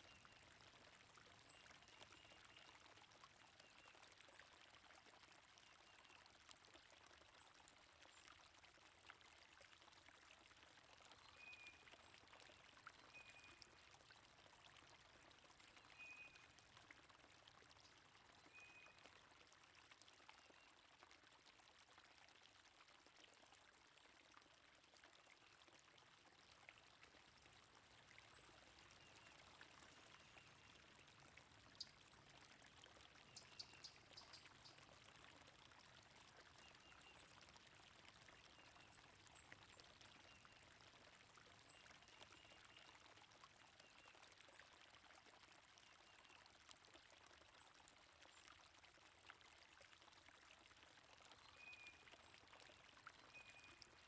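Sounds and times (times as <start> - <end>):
trickling stream: 0.0 - 54.0.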